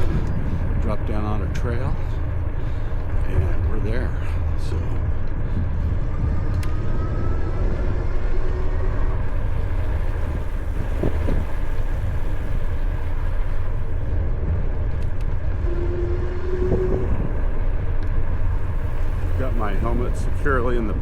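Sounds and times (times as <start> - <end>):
tyre and road rumble: 0.0 - 21.0
wind buffeting microphone: 0.0 - 21.0.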